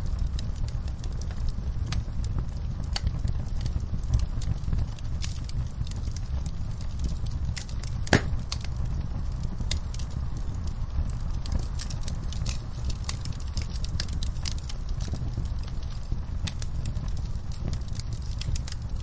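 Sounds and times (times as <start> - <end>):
fire crackling and popping: 0.0 - 19.0
fire flames rumbling: 0.0 - 19.0.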